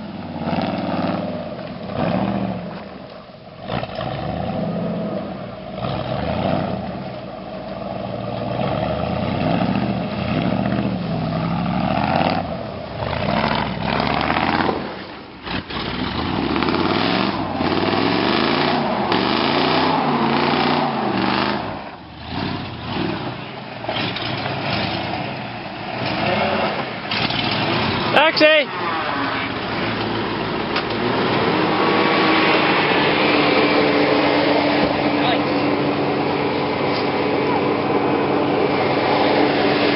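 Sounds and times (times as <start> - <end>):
engine revving: 0.0 - 2.9, 3.6 - 39.9.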